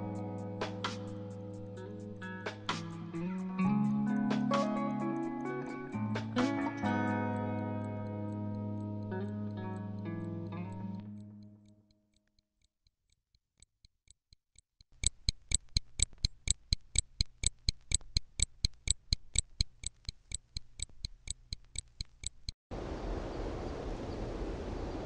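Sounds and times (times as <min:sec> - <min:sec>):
watch ticking: 0:00.1 - 0:22.7.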